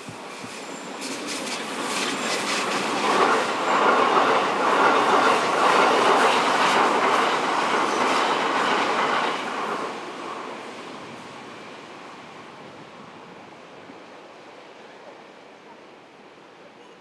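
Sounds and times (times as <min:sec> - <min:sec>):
electric train passing: 0:00.0 - 0:16.5.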